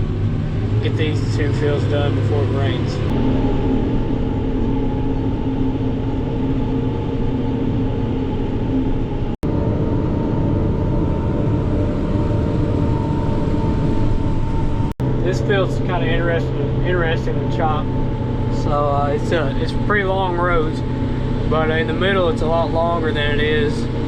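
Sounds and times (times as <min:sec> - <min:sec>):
forage chopper whine: 0:00.0 - 0:24.0
tractor engine drone: 0:00.0 - 0:24.0.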